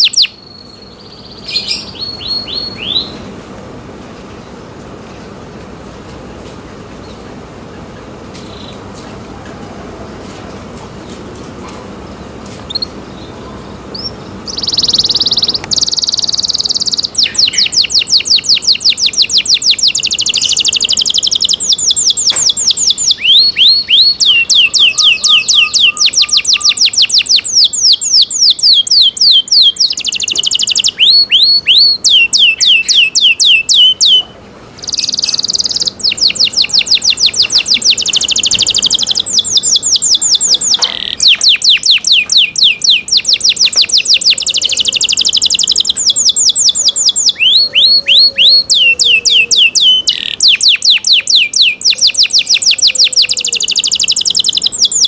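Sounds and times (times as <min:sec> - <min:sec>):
canary singing trills: 0:00.0 - 0:03.4, 0:07.0 - 0:09.0, 0:12.1 - 0:55.0.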